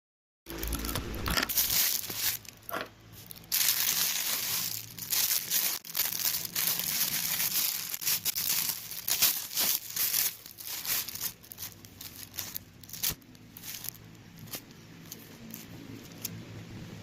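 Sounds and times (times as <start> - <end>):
packaging crinkling and tearing: 0.5 - 16.4.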